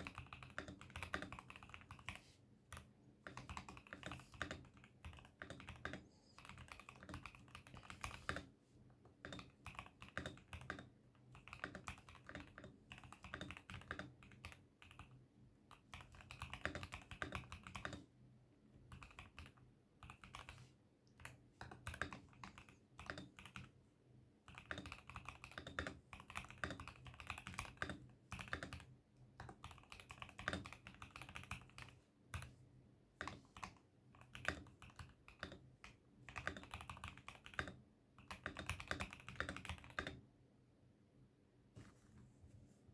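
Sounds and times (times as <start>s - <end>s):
mechanical keyboard typing: 0.0s - 8.5s, 9.2s - 18.1s, 18.9s - 20.6s, 21.2s - 23.8s, 24.5s - 32.5s, 33.2s - 40.2s.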